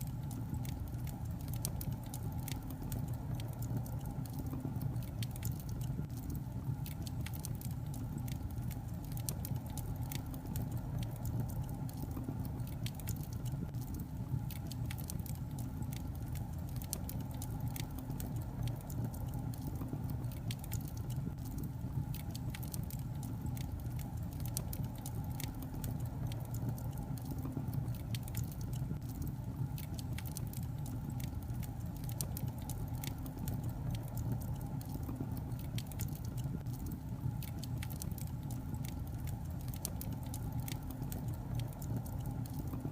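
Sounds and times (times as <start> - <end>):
fire crackling: 0.0 - 42.9
low rumble of flames: 0.0 - 42.9.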